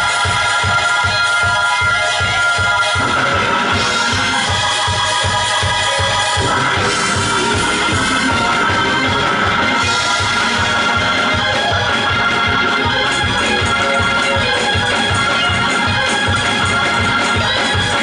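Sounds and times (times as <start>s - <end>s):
organ gospel music: 0.0s - 18.0s
steady beat: 0.0s - 18.0s.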